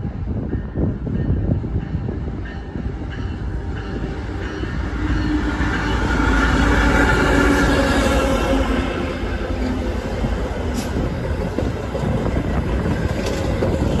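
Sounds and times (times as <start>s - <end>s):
diesel locomotive engine rumble: 0.0s - 14.0s
train wheels rolling on rails: 0.0s - 14.0s.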